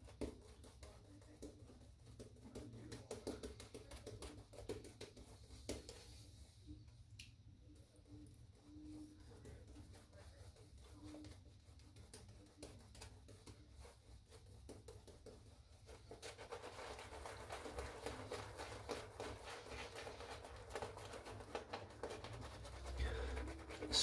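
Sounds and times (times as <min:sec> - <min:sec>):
shaving brush wet scrubbing: 0:00.0 - 0:24.0.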